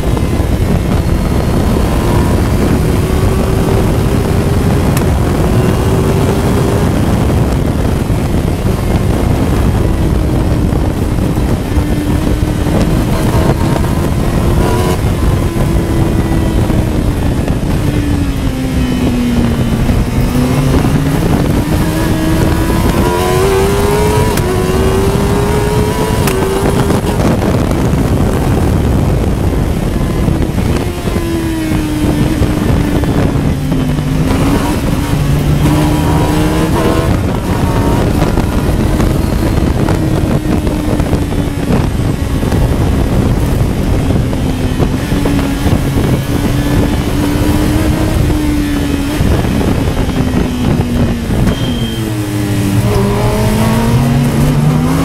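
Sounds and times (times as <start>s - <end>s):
engine at high revs: 0.0s - 55.0s
wind noise rushing: 0.0s - 55.0s.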